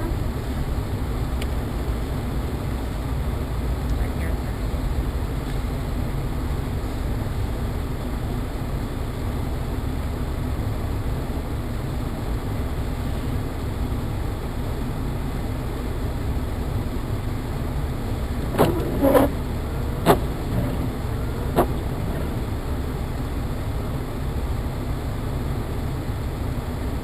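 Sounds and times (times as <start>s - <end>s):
road and engine noise in car: 0.0s - 27.0s.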